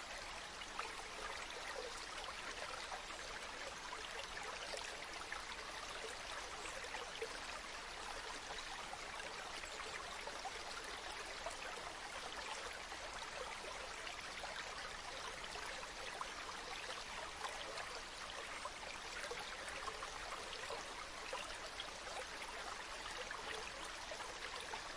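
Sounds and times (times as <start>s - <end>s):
stream flowing over stones: 0.0s - 24.9s.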